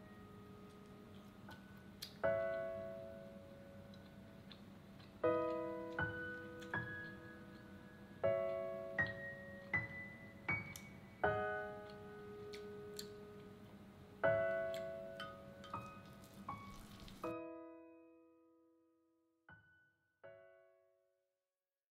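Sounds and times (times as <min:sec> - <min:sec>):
slow solo piano music: 0:00.0 - 0:18.9.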